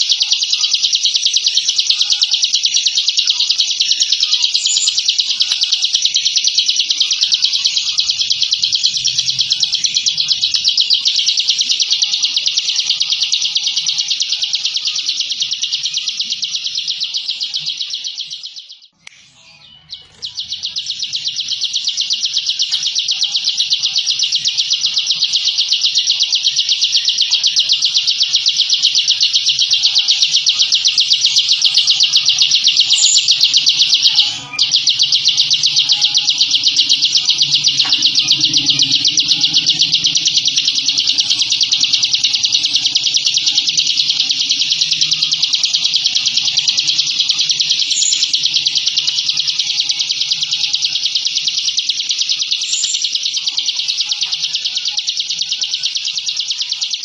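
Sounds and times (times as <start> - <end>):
bird rapid high trill: 0.0 - 57.0.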